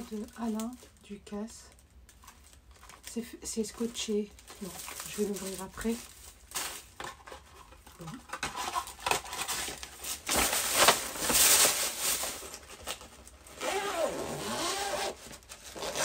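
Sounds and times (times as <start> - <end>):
wrapping paper and plastic crinkling: 0.0 - 16.0.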